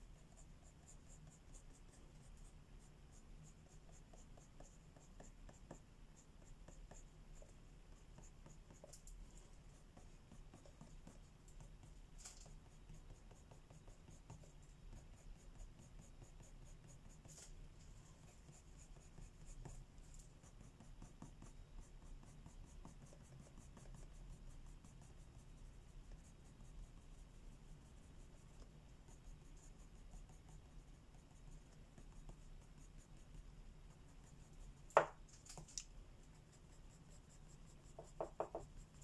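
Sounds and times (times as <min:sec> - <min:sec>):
pencil scratching on paper: 0:00.0 - 0:39.0.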